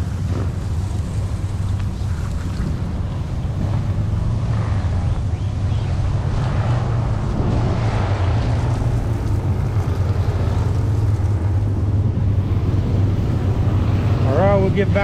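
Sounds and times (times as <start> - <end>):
engine running steadily: 0.0 - 15.0
wind on microphone: 0.0 - 15.0.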